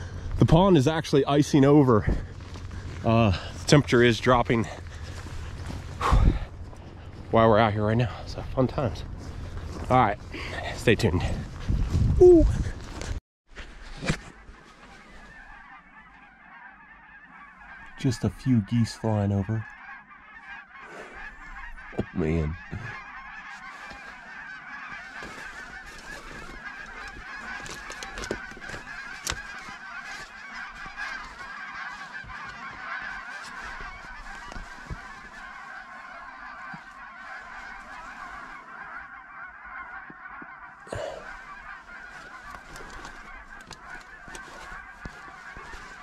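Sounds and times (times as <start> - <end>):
geese honking: 0.0 - 12.4, 14.0 - 46.0.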